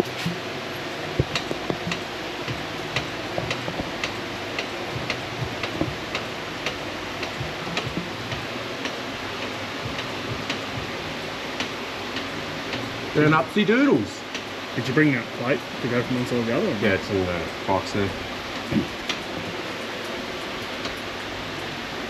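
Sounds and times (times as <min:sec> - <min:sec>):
whooshing shed fans: 0:00.0 - 0:22.0.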